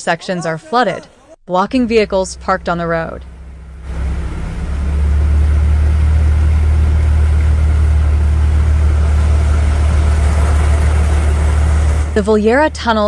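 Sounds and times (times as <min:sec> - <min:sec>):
vehicle engine running: 0:01.7 - 0:13.0.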